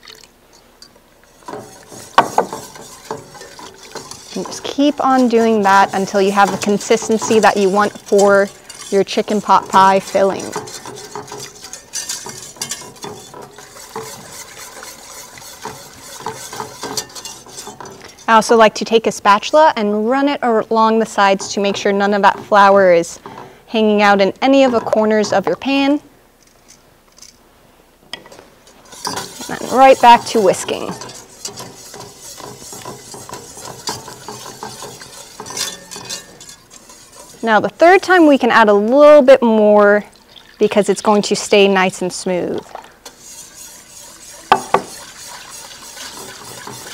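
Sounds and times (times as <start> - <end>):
whisk scraping and tapping a pot: 1.2 - 19.6, 20.6 - 26.0, 28.2 - 39.2, 40.7 - 46.9.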